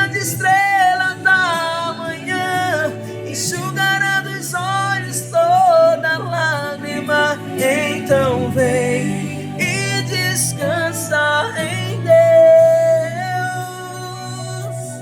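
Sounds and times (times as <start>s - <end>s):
person singing gospel song: 0.0s - 15.0s
sustained bass notes: 0.0s - 15.0s.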